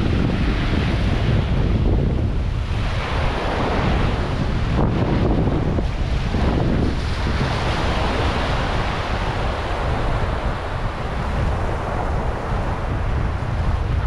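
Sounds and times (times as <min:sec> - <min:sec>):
sea waves rushing: 0:00.0 - 0:14.0
wind buffeting microphone: 0:00.0 - 0:14.0.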